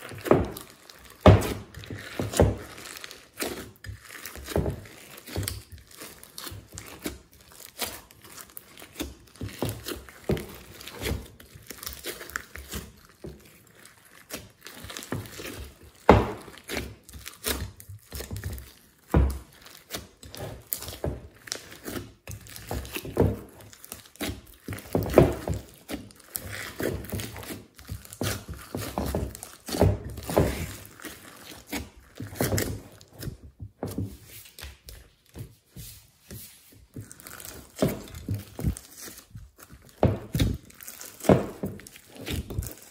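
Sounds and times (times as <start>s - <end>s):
wet slime squishing: 0.0s - 42.9s.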